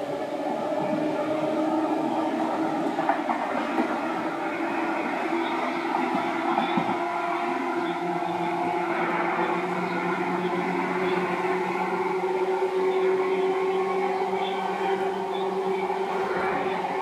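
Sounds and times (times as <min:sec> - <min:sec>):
train motor hum: 0:00.0 - 0:17.0
wheels rumbling on rails: 0:00.0 - 0:17.0.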